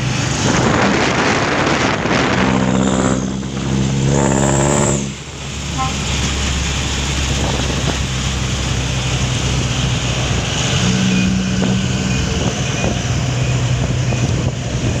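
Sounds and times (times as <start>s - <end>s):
road noise: 0.0s - 15.0s
truck engine humming: 0.0s - 15.0s.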